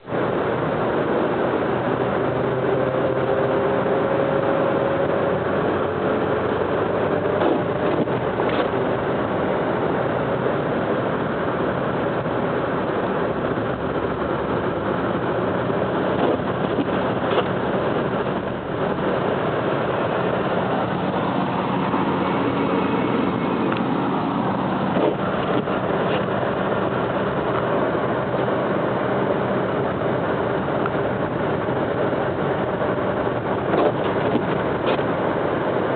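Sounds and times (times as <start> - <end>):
car engine and tyre noise: 0.0 - 35.9.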